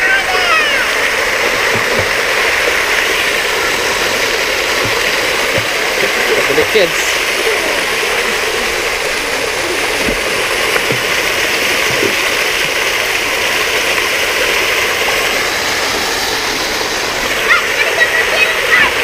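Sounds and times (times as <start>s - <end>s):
fountain water splashing into pool: 0.0s - 19.0s.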